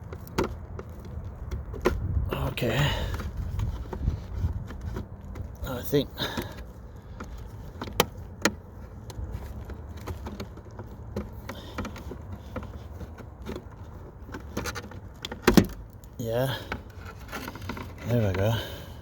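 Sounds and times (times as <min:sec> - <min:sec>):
small scrapes and ticks: 0:00.0 - 0:19.0.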